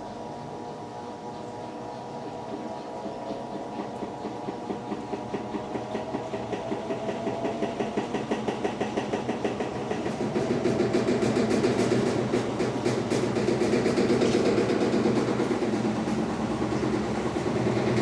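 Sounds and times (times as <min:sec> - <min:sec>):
washing machine churning: 0:00.0 - 0:18.0.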